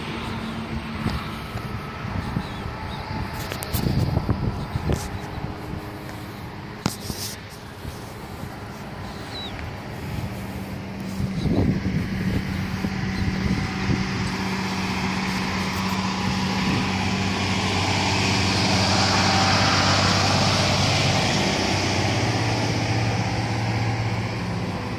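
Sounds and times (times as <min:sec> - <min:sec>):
engine humming: 0:00.0 - 0:24.9
rushing noise: 0:00.0 - 0:24.9.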